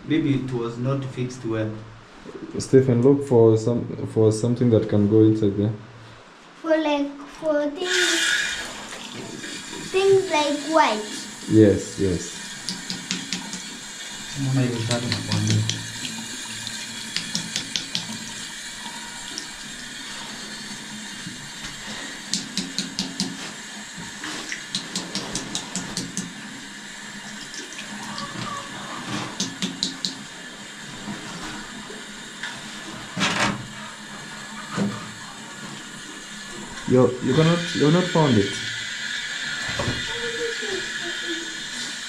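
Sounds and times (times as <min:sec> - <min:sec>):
water rushing from a tap: 0:07.8 - 0:42.0.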